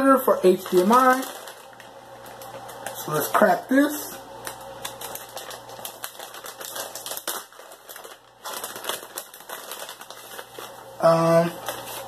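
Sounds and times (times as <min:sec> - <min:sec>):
packaging crackling rustles: 0:00.0 - 0:03.5, 0:04.3 - 0:12.0.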